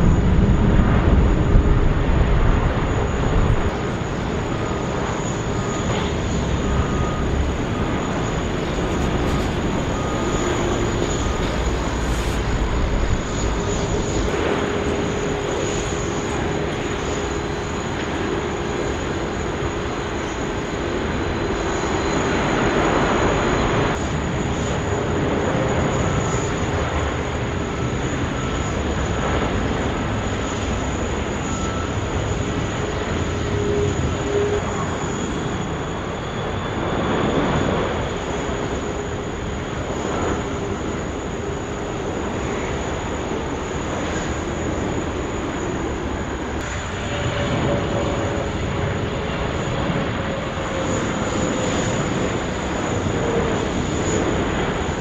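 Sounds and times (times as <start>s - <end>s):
faint jet engine whine: 0.0s - 55.0s
jet airliners landing: 0.0s - 55.0s.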